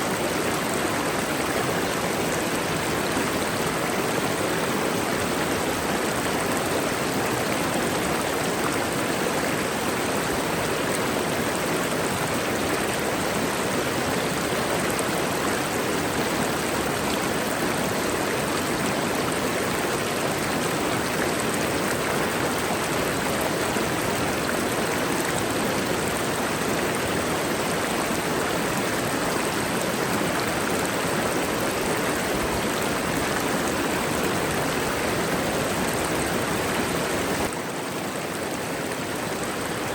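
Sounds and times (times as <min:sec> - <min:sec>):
waterfall roar: 0:00.0 - 0:39.9.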